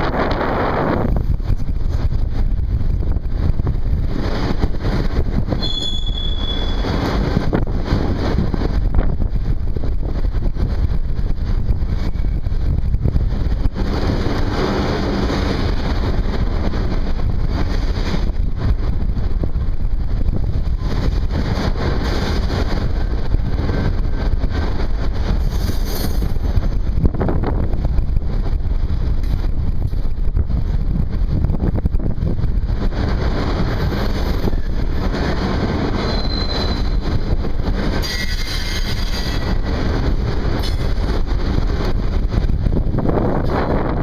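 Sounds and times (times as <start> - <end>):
freight train rumbling by: 0.0 - 44.0
wind buffeting microphone: 0.0 - 44.0.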